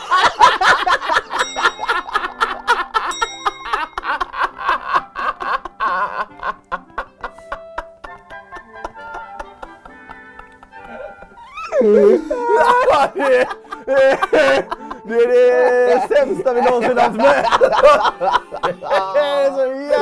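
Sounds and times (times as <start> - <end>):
light background music: 0.0 - 20.0
men laughing: 0.0 - 20.0.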